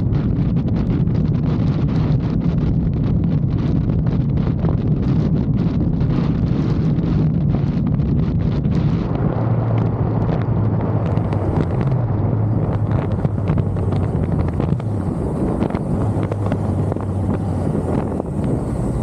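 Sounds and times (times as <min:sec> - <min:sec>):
motorcycle engine hum: 0:00.0 - 0:19.0
wind buffeting microphone: 0:00.0 - 0:19.0.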